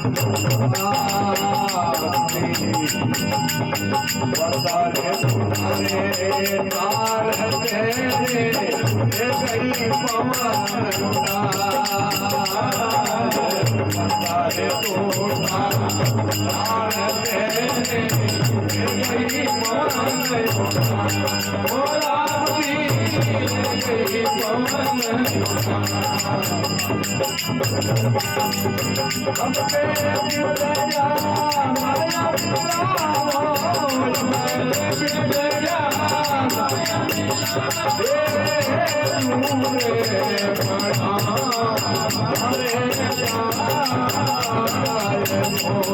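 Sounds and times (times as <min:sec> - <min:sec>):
jingling percussion: 0:00.0 - 0:45.9.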